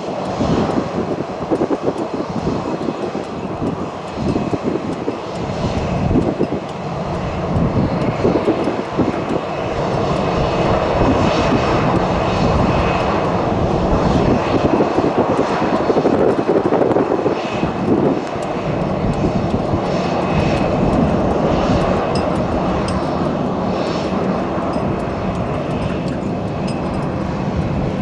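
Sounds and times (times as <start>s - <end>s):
jet engines running loud: 0.0s - 28.0s.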